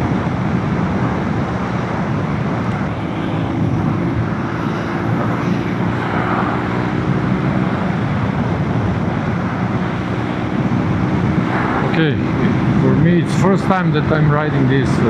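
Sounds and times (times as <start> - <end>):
motorcycle engine cruising: 0.0 - 15.0
wind rushing on microphone: 0.0 - 15.0.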